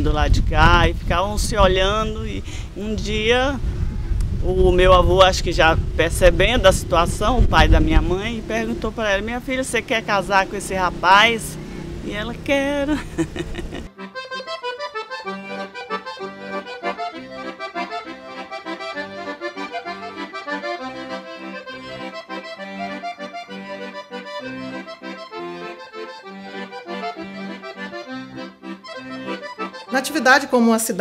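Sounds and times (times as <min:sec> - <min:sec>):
instrumental background music: 0:06.1 - 0:31.0.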